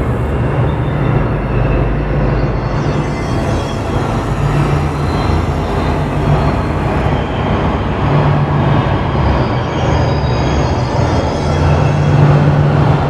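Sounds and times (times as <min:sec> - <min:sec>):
dense rumbling noise: 0:00.0 - 0:13.0
low hum: 0:00.0 - 0:13.0.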